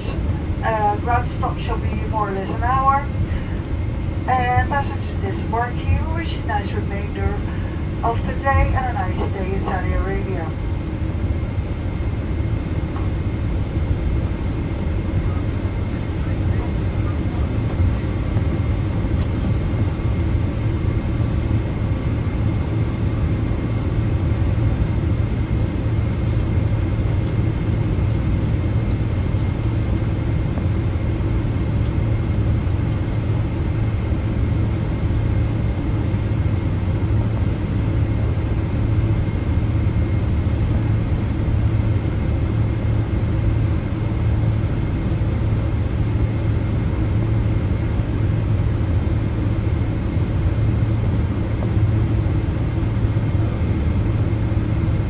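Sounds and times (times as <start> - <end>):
faint engine whine: 0.0 - 55.0
jet engines droning: 0.0 - 55.0.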